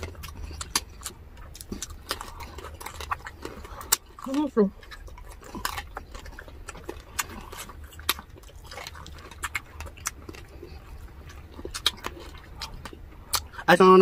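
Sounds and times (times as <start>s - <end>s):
crisp crunching: 0.0s - 13.7s
wet chewing and mouth smacks: 0.0s - 14.0s.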